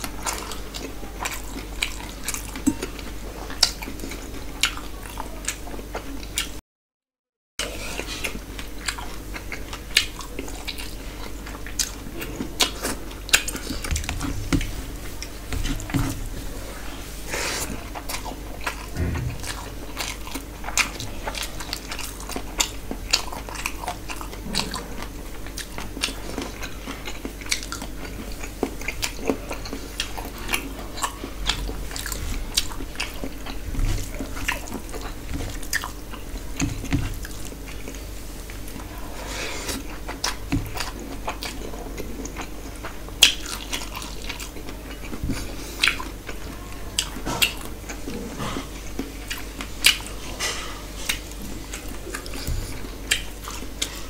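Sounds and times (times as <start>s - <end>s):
person chewing: 0.0s - 6.6s, 7.6s - 54.0s.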